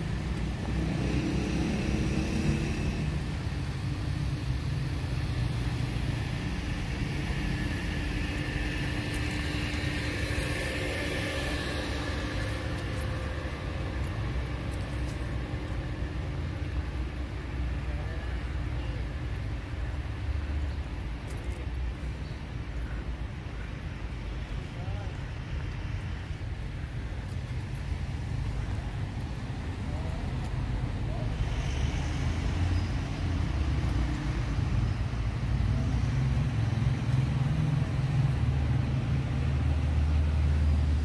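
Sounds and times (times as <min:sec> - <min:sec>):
cars driving by: 0:00.0 - 0:41.0.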